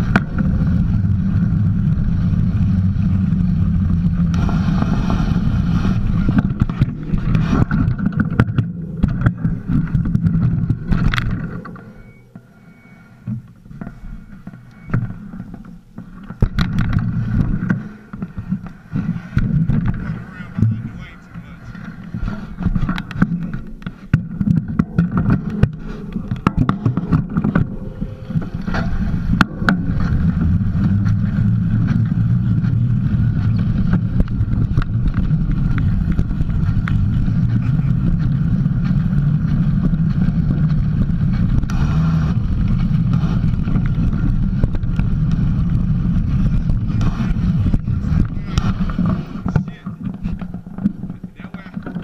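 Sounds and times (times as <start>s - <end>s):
wind buffeting microphone: 0.0s - 12.9s, 16.3s - 52.0s
bike clattering and rattling: 0.0s - 52.0s
low rumble of tyres: 0.0s - 52.0s.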